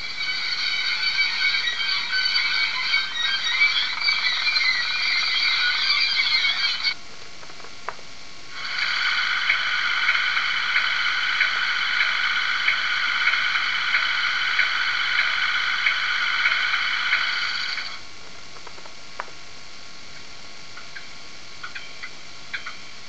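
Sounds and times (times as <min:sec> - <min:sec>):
model locomotive electric hum: 0:00.0 - 0:23.0.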